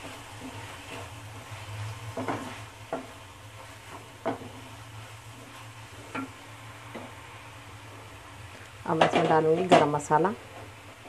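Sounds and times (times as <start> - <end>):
wooden spatula scraping frying pan: 0.0 - 8.3, 8.9 - 11.0
chicken sizzling: 0.0 - 11.0.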